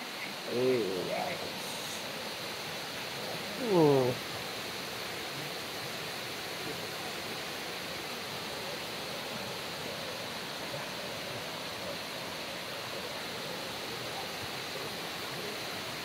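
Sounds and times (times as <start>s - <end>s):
river rushing over stones: 0.0s - 16.0s.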